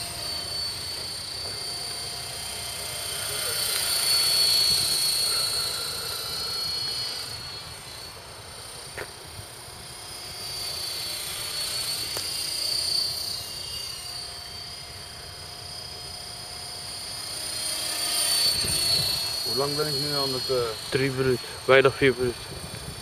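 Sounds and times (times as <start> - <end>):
rc helicopter whining: 0.0 - 23.0.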